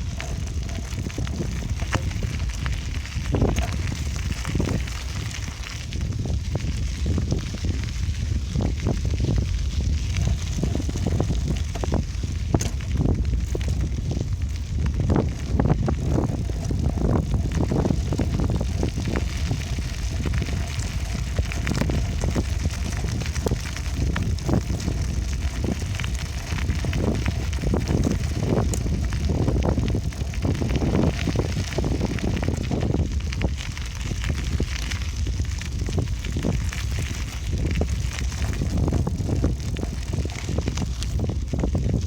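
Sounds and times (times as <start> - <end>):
bicycle rolling and rattling: 0.0 - 42.0.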